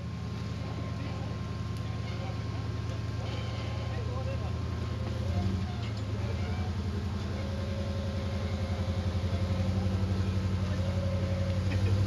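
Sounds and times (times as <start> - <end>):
buggy engine running at low revs: 0.0 - 12.0.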